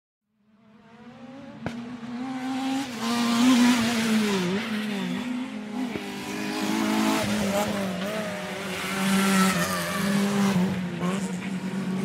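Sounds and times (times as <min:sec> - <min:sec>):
racing car engines: 0:00.3 - 0:12.0.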